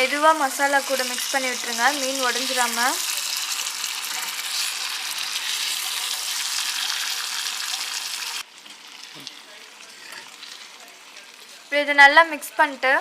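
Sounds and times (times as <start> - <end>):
fish sizzling in hot oil: 0.0 - 12.9.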